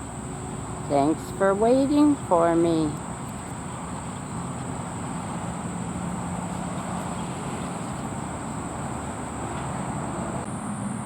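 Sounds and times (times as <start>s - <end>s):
vehicle traffic noise: 0.0s - 11.0s.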